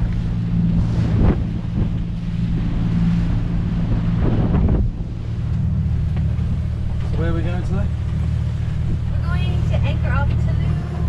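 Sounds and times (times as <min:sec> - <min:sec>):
boat diesel engine drone: 0:00.0 - 0:11.0
water rushing past hull: 0:00.0 - 0:11.0
wind buffeting microphone: 0:00.0 - 0:11.0.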